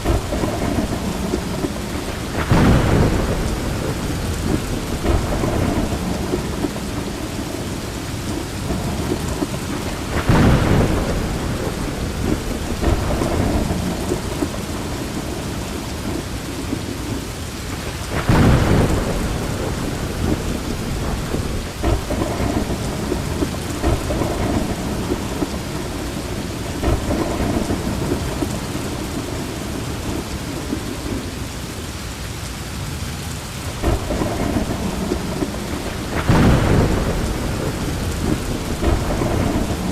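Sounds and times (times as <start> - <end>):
loud thunderclaps: 0.0 - 31.4, 33.7 - 39.9
heavy rain falling: 0.0 - 39.9.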